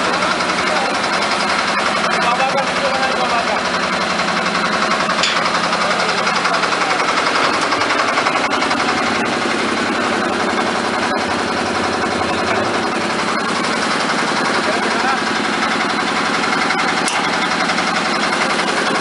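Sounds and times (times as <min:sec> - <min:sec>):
concrete mixer engine running: 0:00.0 - 0:19.0.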